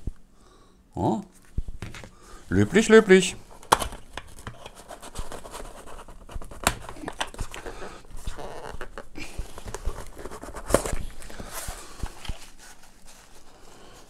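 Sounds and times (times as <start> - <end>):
cardboard and cloth rustling: 1.3 - 14.0.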